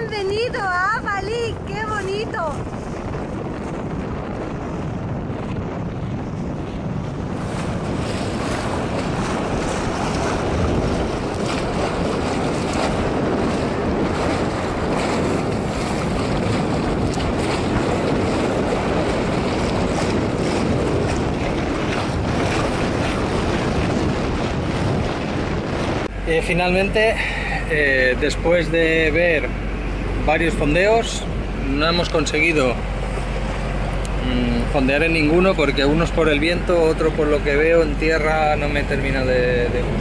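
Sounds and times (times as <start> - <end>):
water rushing along a hull: 0.0 - 40.0
wind buffeting microphone: 0.0 - 40.0.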